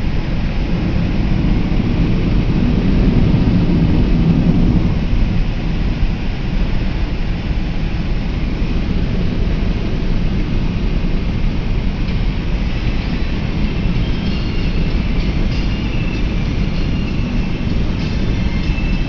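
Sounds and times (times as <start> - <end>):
car driving through rain: 0.0 - 19.0.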